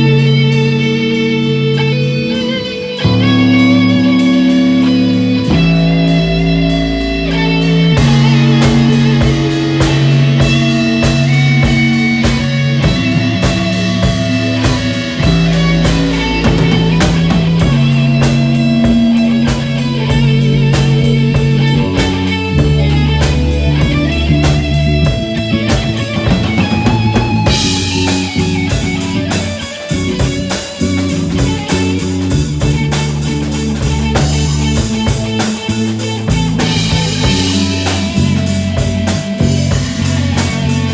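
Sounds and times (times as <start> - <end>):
bass guitar: 0.0 - 40.9
drum kit beat: 0.0 - 40.9
electric guitars: 0.0 - 40.9.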